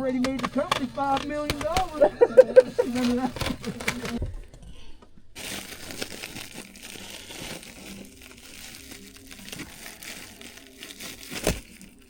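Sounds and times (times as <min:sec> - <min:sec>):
ductwork crinkling and crumpling: 0:00.0 - 0:12.0.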